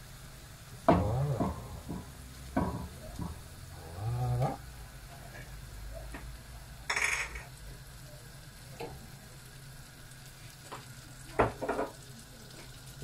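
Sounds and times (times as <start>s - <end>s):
butter sizzling in a frying pan: 0.0s - 13.0s.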